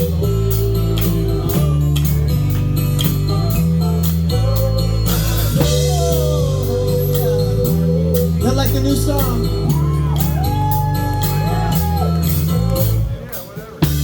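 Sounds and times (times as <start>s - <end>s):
drum kit beat: 0.0s - 14.0s
live band playing: 0.0s - 14.0s.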